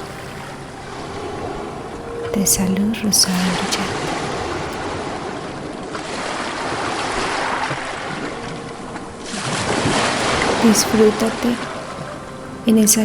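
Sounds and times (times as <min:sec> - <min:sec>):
ocean waves washing ashore: 0:00.0 - 0:13.0.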